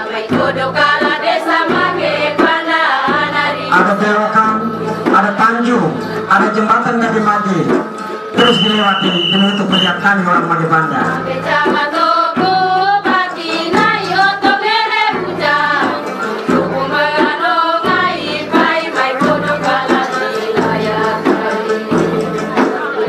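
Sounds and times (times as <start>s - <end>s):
instrumental dance music: 0.0s - 23.0s.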